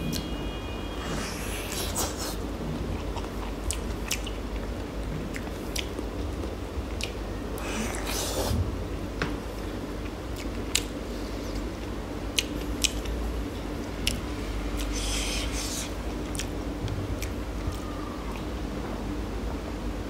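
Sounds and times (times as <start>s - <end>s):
person chewing with wet smacks: 0.0s - 0.3s, 1.1s - 8.6s, 9.9s - 18.5s
steady low hum: 0.0s - 20.0s.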